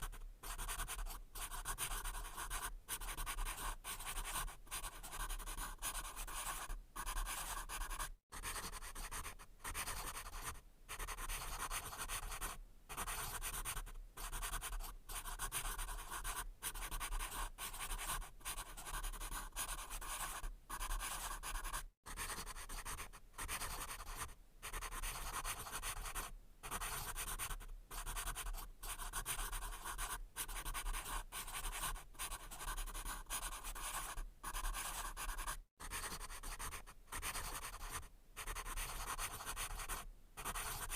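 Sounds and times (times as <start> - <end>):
pencil writing on paper: 0.0 - 40.9.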